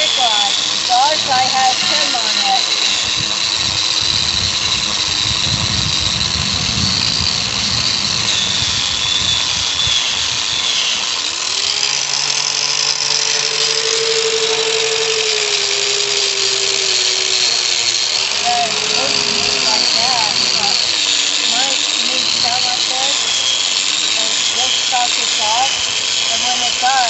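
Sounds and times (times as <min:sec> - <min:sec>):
wire wheel grinder on metal: 0:00.0 - 0:27.0.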